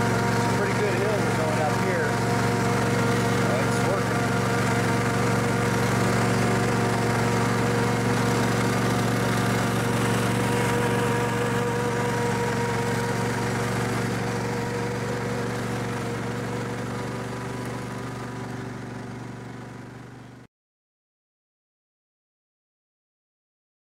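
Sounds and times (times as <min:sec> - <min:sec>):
riding lawnmower engine running: 0:00.0 - 0:20.5.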